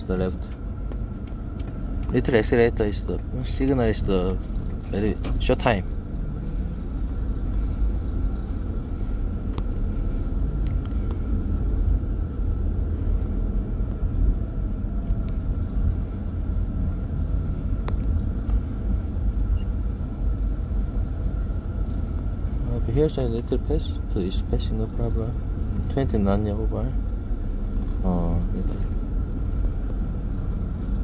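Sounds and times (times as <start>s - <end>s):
car engine rumble: 0.0s - 31.0s
road noise: 0.0s - 31.0s.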